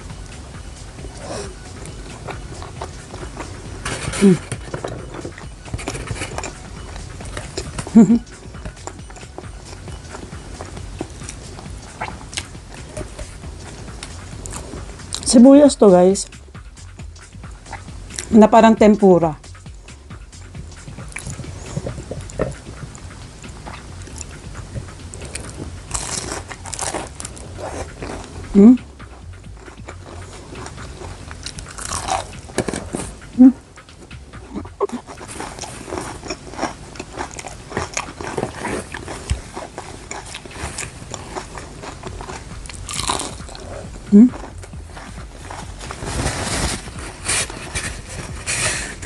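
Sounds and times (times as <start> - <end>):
wet chewing and mouth clicks: 0.1 - 15.3, 19.6 - 46.2.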